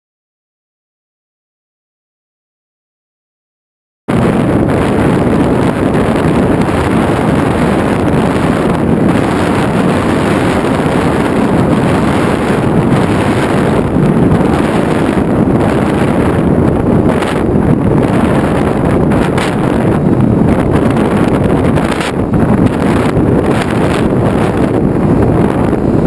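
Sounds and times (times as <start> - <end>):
wind buffeting microphone: 4.1 - 26.0.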